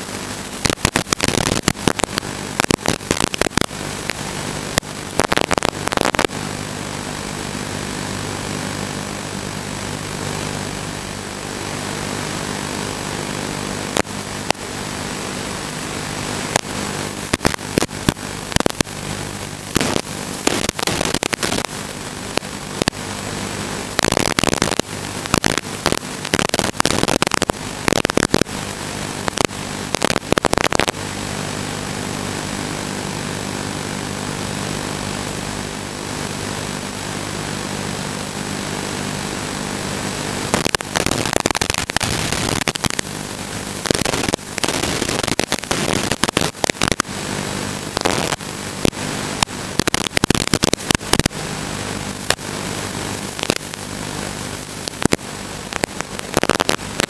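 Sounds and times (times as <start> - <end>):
crackling static bursts: 0.0 - 57.0
electronic buzz and hiss: 0.0 - 57.0.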